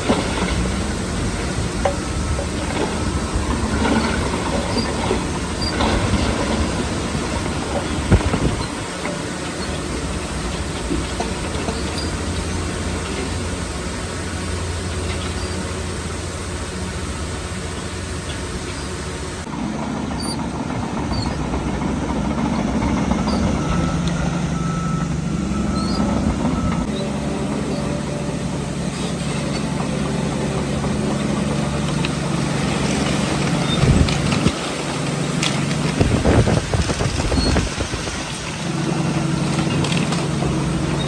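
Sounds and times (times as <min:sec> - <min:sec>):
heavy diesel engines: 0:00.0 - 0:41.0.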